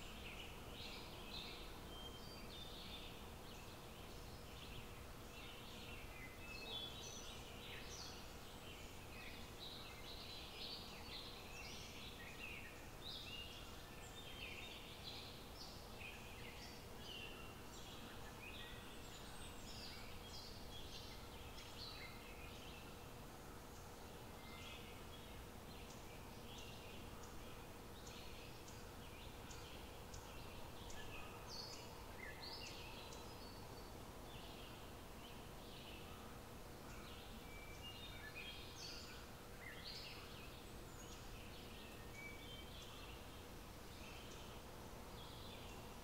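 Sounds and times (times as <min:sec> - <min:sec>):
faint background hiss: 0:00.0 - 0:46.0.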